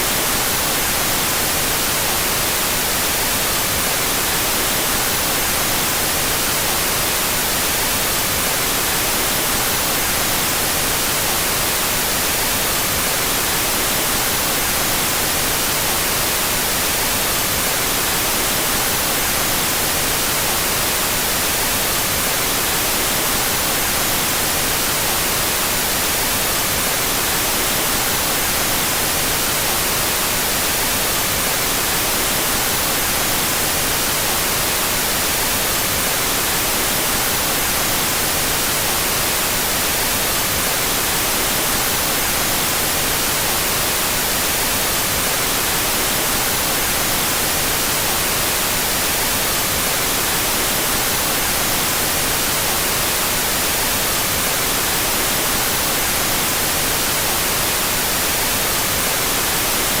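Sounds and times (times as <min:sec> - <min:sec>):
white noise hiss: 0:00.0 - 1:00.0.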